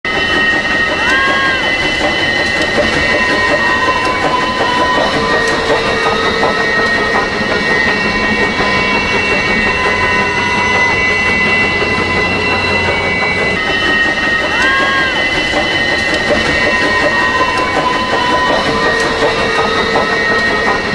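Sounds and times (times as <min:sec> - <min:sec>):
steam train running: 0:00.0 - 0:20.9
high held tones: 0:00.1 - 0:20.9.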